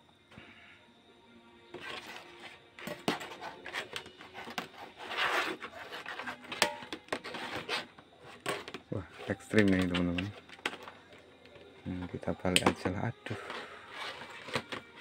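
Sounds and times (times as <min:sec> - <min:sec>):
cables rubbing and rustling: 0:01.7 - 0:15.0.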